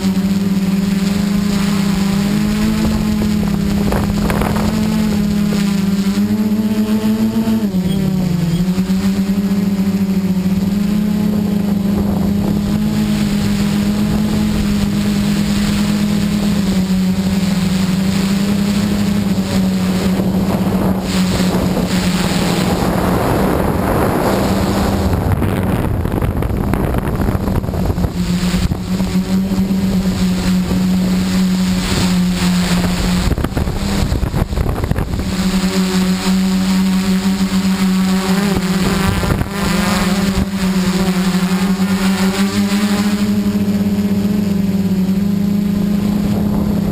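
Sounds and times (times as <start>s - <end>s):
drone motors humming: 0.0s - 46.9s
wind rushing over microphone: 0.0s - 46.9s.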